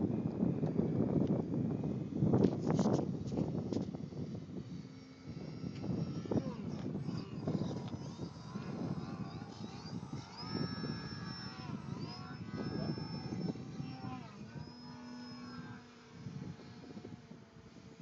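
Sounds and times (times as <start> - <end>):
model plane motor whining: 0.0 - 18.0.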